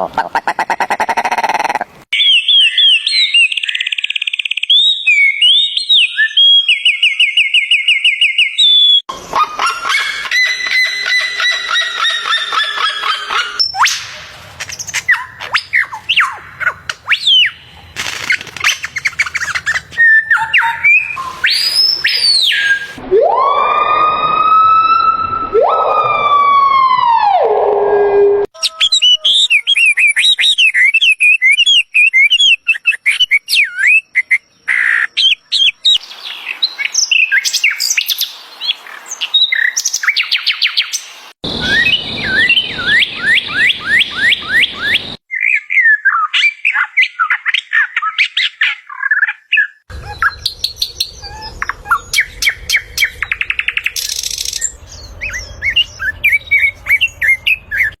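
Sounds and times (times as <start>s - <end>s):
birds chirping: 0.0s - 23.0s, 28.6s - 58.0s.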